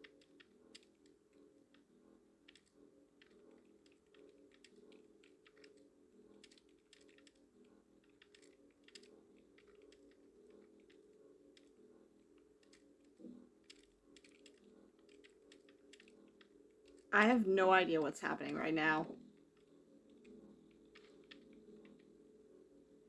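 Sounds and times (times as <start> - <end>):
computer keyboard typing: 0.0 - 1.8, 2.4 - 17.1, 19.2 - 22.2
faint low hum: 0.0 - 23.0.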